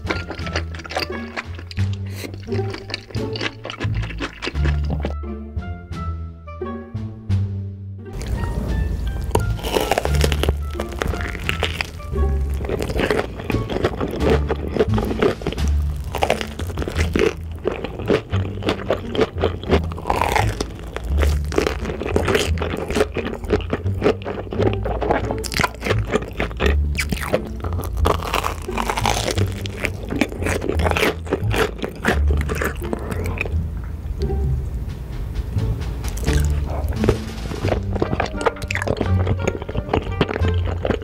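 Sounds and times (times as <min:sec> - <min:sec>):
crunchy chewing: 0:00.0 - 0:05.2, 0:08.2 - 0:08.6, 0:09.2 - 0:34.0, 0:36.0 - 0:41.0.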